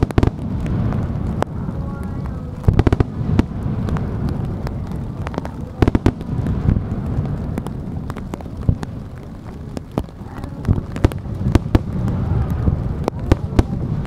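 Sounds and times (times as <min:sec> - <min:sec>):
fireworks bursting with sharp bangs: 0:00.0 - 0:14.0
low rolling rumble: 0:00.0 - 0:14.0.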